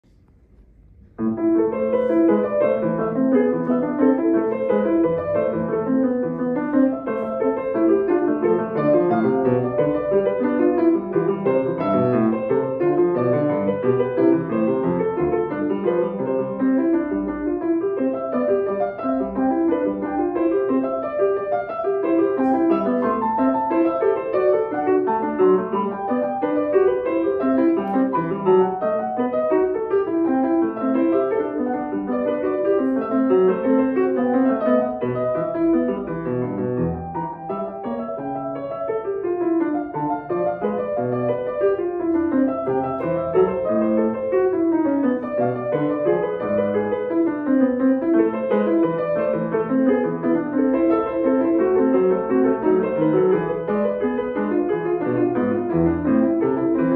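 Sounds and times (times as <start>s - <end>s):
grand piano playing quick runs: 0.0s - 56.9s.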